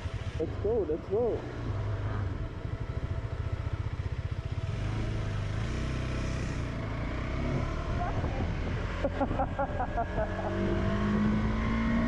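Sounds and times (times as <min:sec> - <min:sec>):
motorcycle engine riding off: 0:00.0 - 0:12.0.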